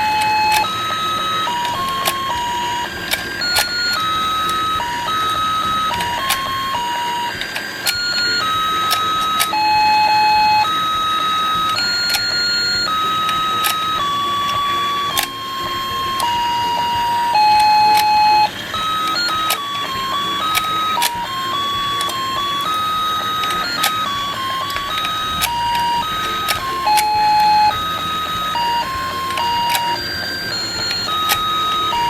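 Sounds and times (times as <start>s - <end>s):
electronic beeping tune: 0.0s - 32.0s
sharp clicks: 0.0s - 32.0s.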